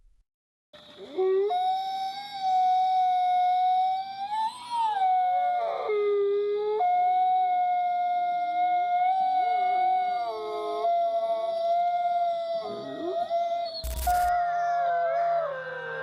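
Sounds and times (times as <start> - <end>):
wolves howling in chorus: 1.0 - 16.0.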